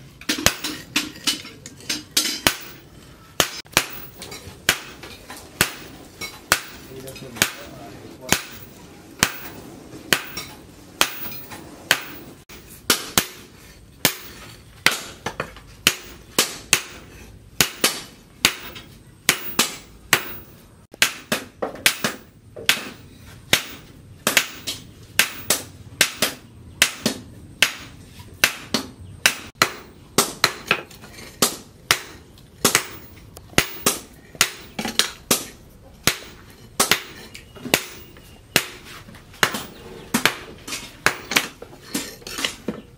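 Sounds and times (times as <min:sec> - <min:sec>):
hammer striking metal on anvil: 0:00.2 - 0:41.5.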